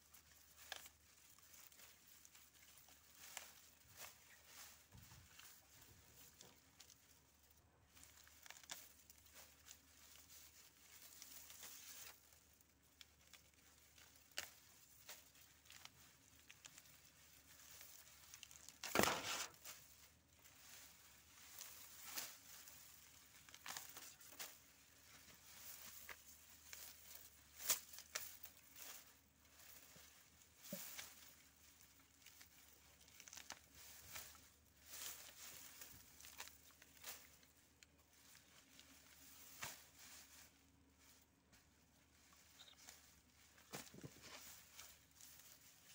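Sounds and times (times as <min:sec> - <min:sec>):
dry stalks rustling and crackling: 0:00.0 - 0:45.9.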